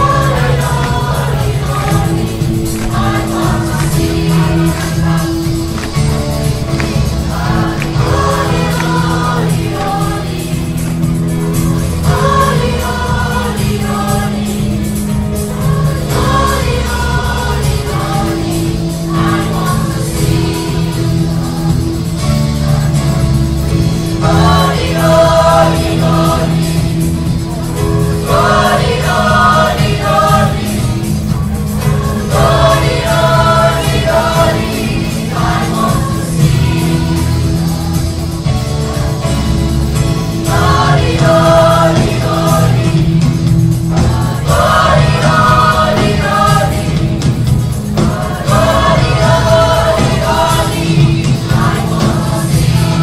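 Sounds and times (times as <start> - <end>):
drum kit: 0.0 - 53.0
keyboard: 0.0 - 53.0
youth choir singing gospel: 0.0 - 53.0.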